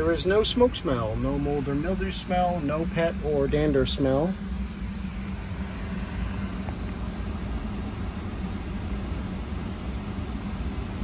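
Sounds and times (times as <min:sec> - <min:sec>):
climate-control fan blowing air: 0:00.0 - 0:11.0.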